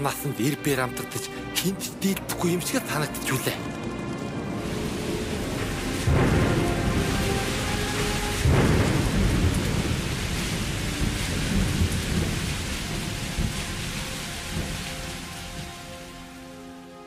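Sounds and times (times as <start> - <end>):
heavy rain pouring: 0.0 - 17.0
thunder rumbling: 2.2 - 16.4.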